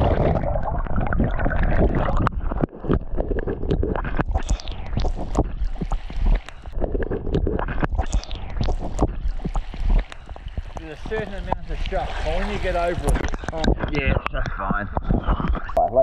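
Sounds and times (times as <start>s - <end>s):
water splashing and sloshing: 0.0s - 15.8s.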